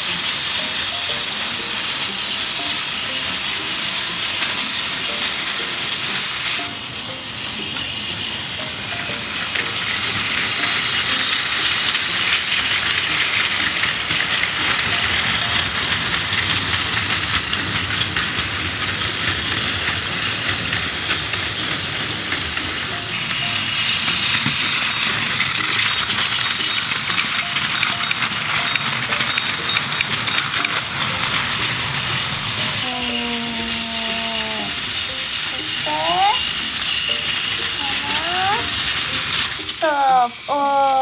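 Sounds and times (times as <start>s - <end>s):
toy trains rattling on plastic track: 0.0s - 41.0s.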